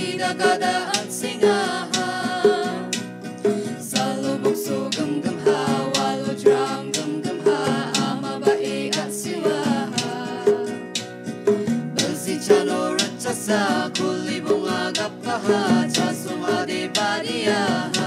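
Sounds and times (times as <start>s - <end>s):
acoustic guitar: 0.0s - 18.0s
people singing: 0.0s - 18.0s
percussive beat: 0.0s - 18.0s.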